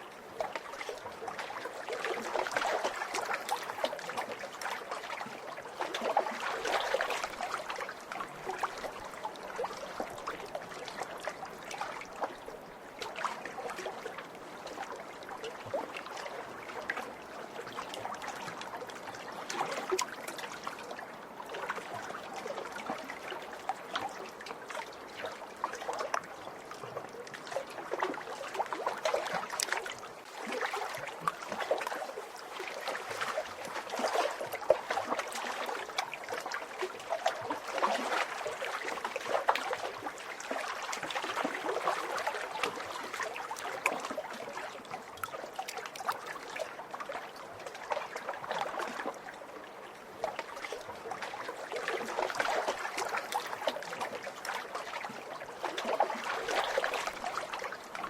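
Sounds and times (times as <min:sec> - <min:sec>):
lake waves lapping at shore: 0:00.0 - 0:58.0.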